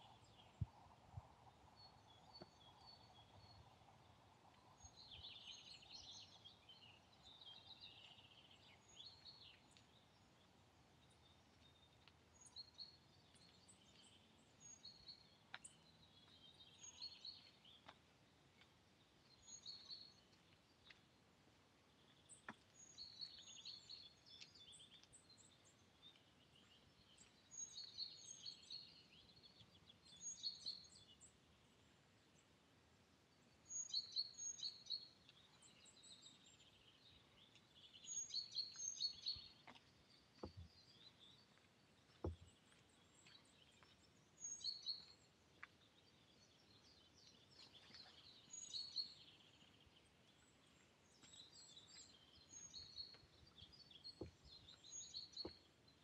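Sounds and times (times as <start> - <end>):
faint woodland background: 0.0 - 56.0
songbirds singing: 0.0 - 56.0.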